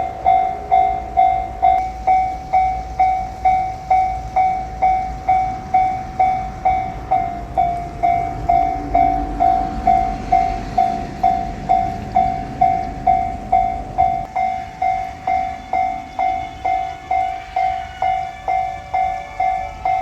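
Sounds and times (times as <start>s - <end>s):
low rumble: 0.0s - 16.8s
level-crossing alarm bell: 0.0s - 20.0s.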